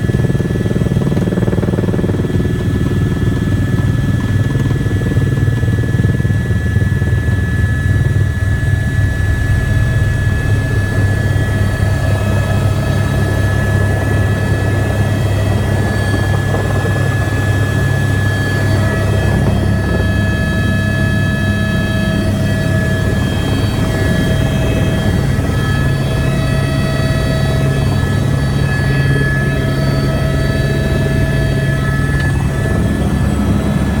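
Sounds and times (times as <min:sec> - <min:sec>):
helicopter rotor throb: 0:00.0 - 0:34.0
high-pitched turbine whine: 0:00.0 - 0:34.0.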